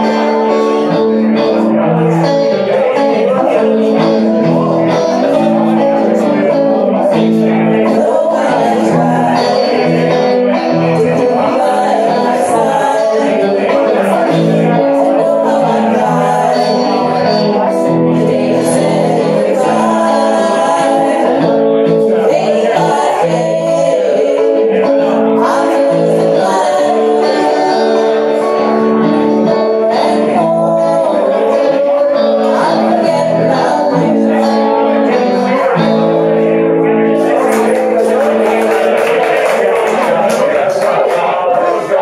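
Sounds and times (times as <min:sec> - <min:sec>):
women singing into microphones: 0:00.0 - 0:36.4
electric guitar: 0:00.0 - 0:42.0.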